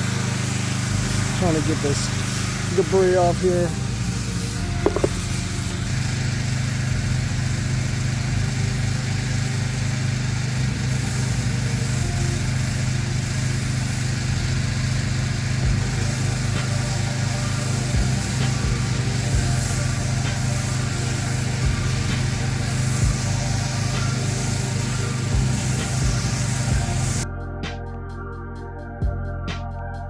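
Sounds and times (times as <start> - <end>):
water spray hissing: 0.0 - 27.2
pressure washer engine running: 0.0 - 27.3.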